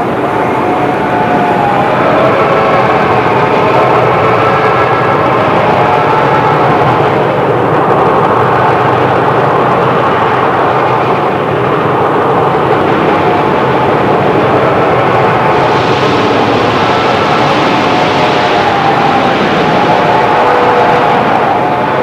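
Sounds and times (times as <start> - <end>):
train running: 0.0 - 22.0.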